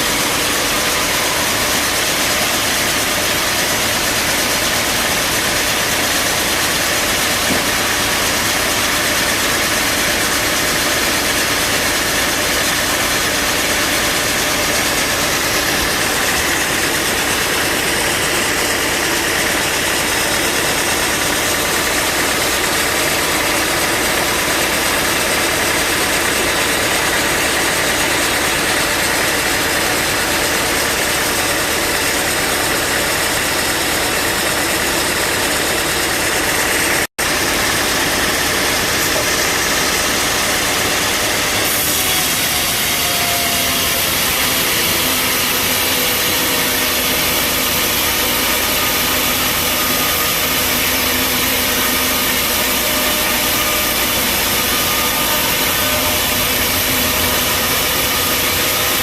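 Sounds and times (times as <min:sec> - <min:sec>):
bandsaw sawmill running: 0:00.0 - 0:59.0.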